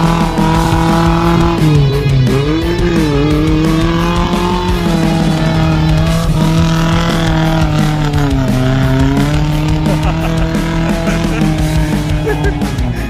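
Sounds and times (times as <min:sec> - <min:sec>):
car engine revving unevenly: 0:00.0 - 0:13.0
rap music: 0:00.0 - 0:13.0.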